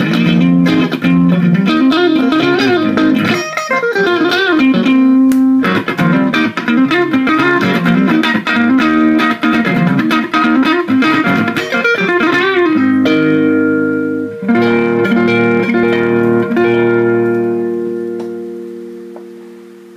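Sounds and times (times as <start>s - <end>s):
electric guitar playing: 0.0s - 19.9s.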